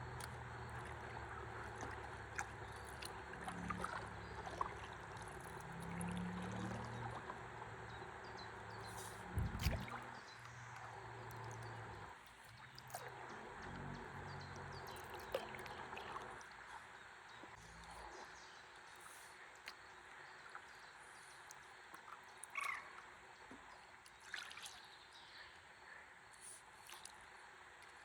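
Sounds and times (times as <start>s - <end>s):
river water lapping around a board: 0.0s - 28.0s.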